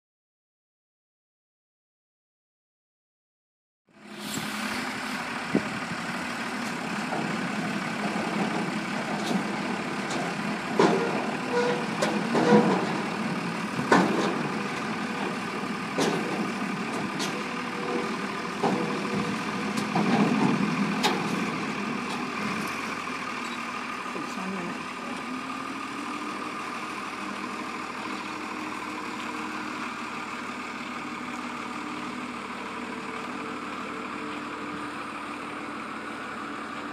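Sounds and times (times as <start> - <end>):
truck engine idling: 3.9 - 36.9.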